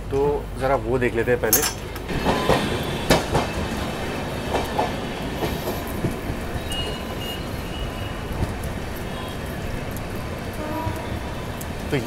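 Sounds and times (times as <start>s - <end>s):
train wheels rumbling on rail: 0.0s - 12.0s
wheels clacking over rail joints: 1.5s - 12.0s.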